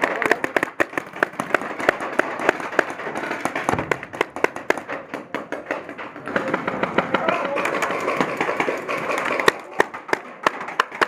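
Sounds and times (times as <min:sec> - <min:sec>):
paintball markers popping: 0:00.0 - 0:11.0.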